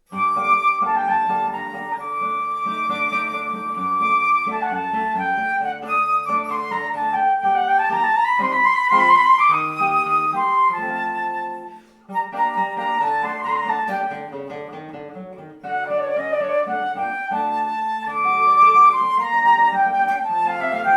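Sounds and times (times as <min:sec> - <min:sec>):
flute melody: 0:00.0 - 0:20.9
plucked guitar chords: 0:00.0 - 0:20.9.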